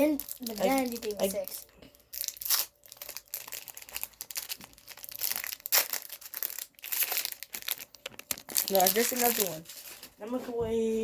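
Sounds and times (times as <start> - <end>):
card packaging crinkling: 0.0 - 10.4.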